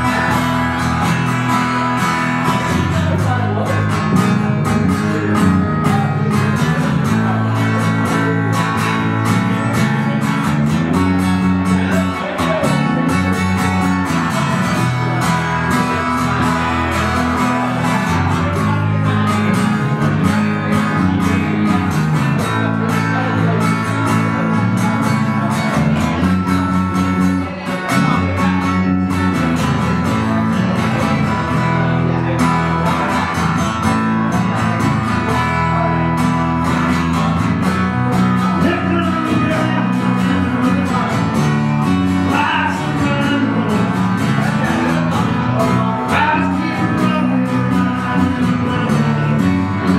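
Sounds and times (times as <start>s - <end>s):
acoustic guitar strummed and picked: 0.0s - 49.9s.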